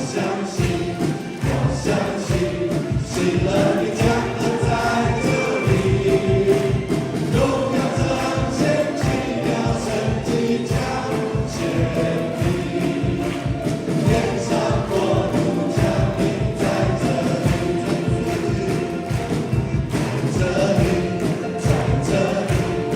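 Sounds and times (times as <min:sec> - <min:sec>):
worship band with voices singing: 0:00.0 - 0:22.9.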